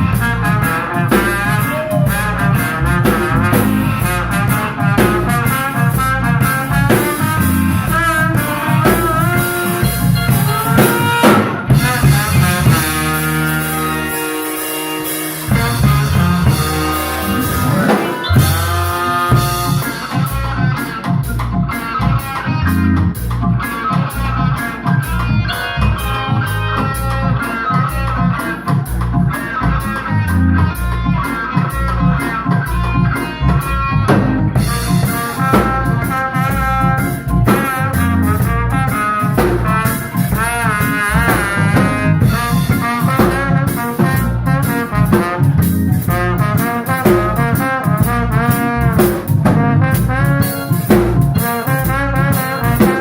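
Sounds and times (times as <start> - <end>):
brass instruments: 0.0 - 53.0
drum kit: 0.0 - 53.0
guitar: 0.0 - 53.0.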